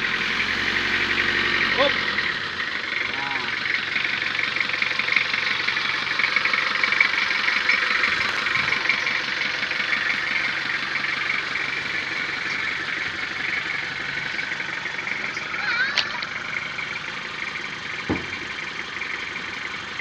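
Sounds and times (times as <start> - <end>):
pickup engine idling with ticking: 0.0 - 20.0.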